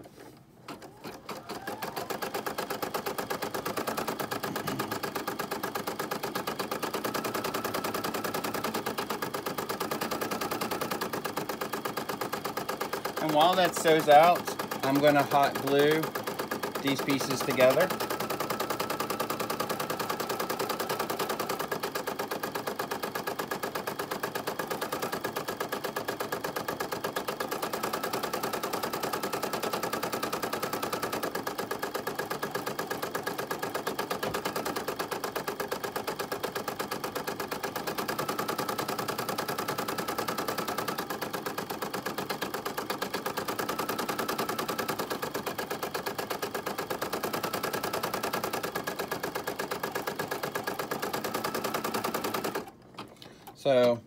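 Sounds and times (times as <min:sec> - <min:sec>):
embroidery machine rattling: 0:00.7 - 0:52.7.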